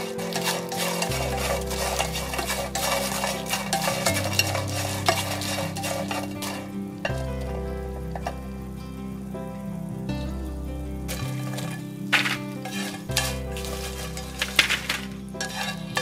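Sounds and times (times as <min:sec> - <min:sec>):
chopsticks stir-frying in a pan: 0:00.0 - 0:09.2, 0:11.0 - 0:16.0.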